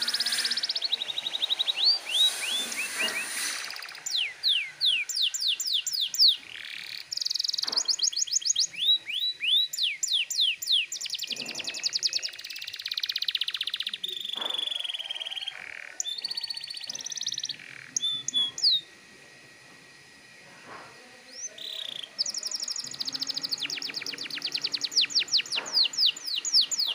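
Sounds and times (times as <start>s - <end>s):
canary singing: 0.0s - 18.9s, 21.3s - 26.9s.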